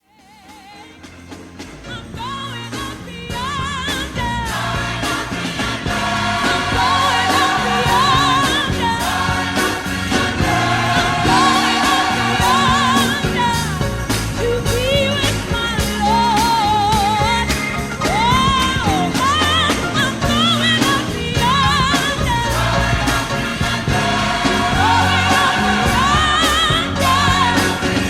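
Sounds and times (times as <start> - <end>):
gospel singing over bass and beat: 0.0 - 28.0.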